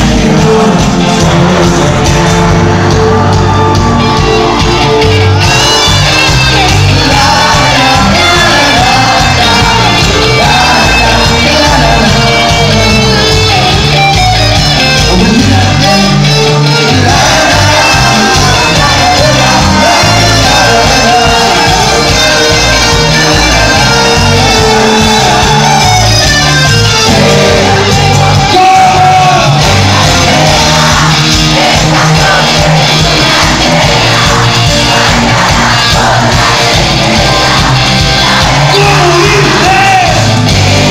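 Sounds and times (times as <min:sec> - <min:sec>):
person singing: 0:00.0 - 0:14.1, 0:14.9 - 0:40.9
crowd shouting along: 0:00.0 - 0:15.8, 0:16.5 - 0:40.9
live band music: 0:00.0 - 0:40.9.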